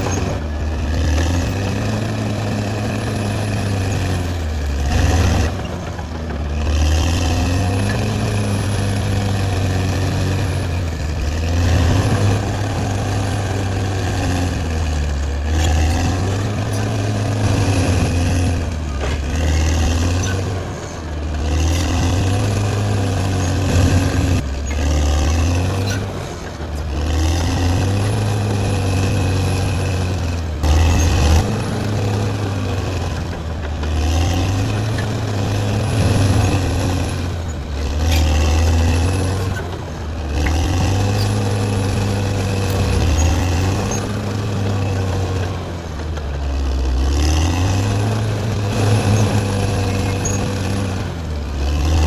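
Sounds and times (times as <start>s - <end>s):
bulldozer diesel engine working: 0.0s - 52.0s.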